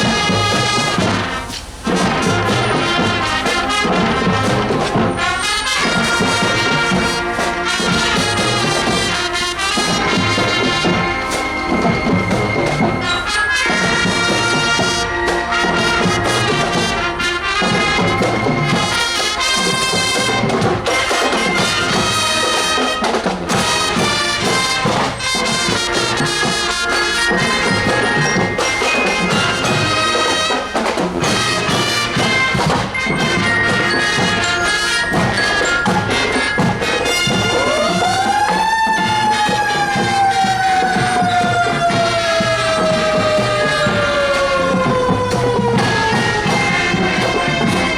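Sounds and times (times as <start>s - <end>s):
marching band trumpets and trombones: 0.0s - 47.9s
steady drum beat: 0.0s - 47.9s.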